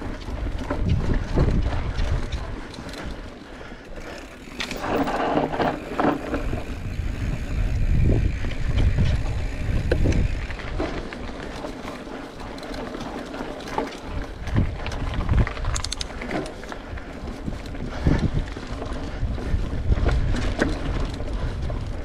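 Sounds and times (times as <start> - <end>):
bike clicks and knocks: 0.0 - 22.0
wind rumbling on microphone: 0.0 - 22.0.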